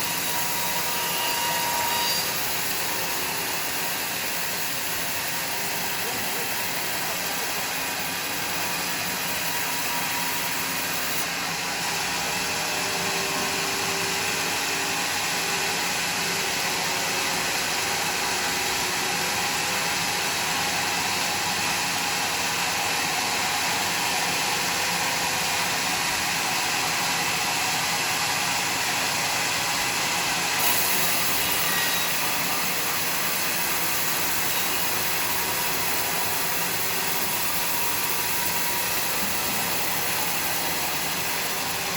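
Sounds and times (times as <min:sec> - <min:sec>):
sawmill machinery drone: 0:00.0 - 0:41.9.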